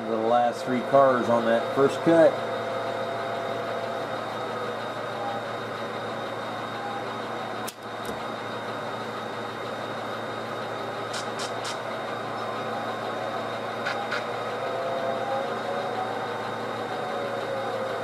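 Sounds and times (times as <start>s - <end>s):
model locomotive engine hum: 0.0s - 18.0s.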